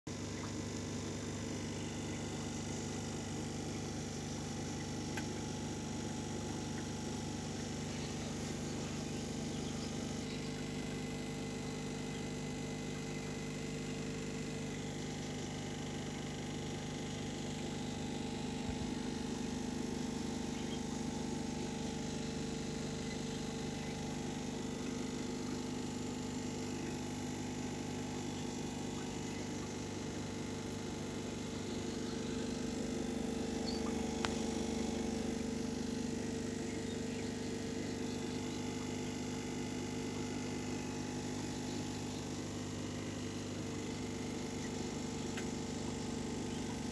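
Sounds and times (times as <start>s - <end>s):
aquarium pump humming: 0.1s - 46.9s.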